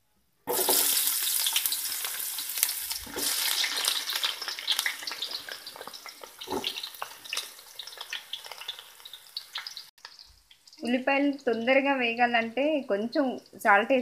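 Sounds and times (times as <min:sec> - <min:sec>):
onions sizzling in hot oil: 0:00.5 - 0:14.0.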